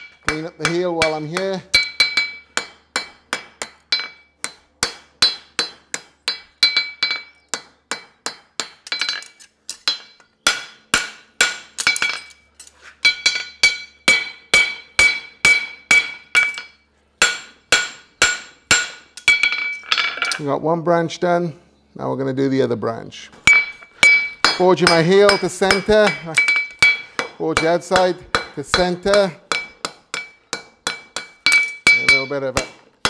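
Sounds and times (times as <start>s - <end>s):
hammer striking horseshoe on anvil: 0.0s - 12.4s, 13.0s - 20.5s, 23.4s - 33.0s.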